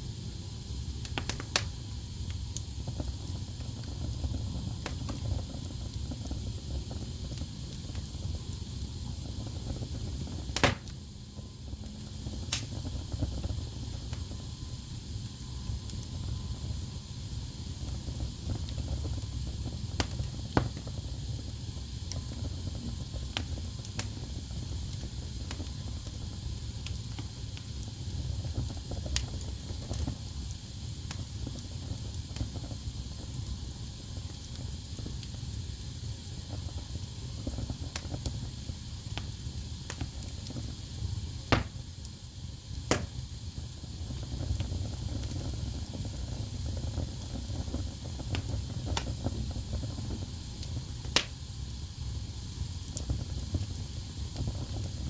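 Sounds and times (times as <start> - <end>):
fire crackling and popping: 0.0 - 55.0
fire rumbling and hissing: 0.0 - 55.0.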